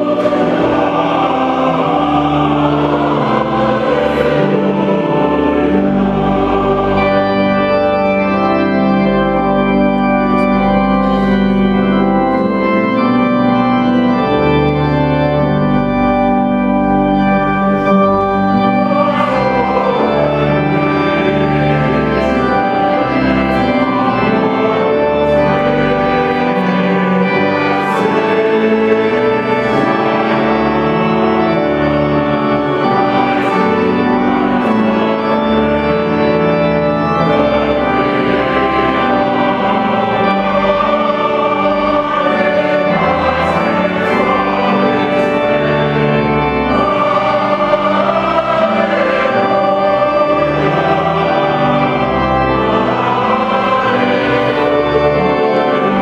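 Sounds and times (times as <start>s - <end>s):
choir singing sacred piece: 0.0s - 56.0s
organ: 0.0s - 56.0s.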